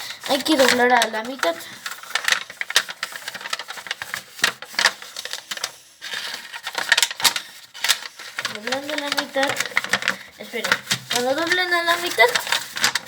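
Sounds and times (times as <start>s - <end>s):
paper being folded and creased: 0.0s - 13.0s.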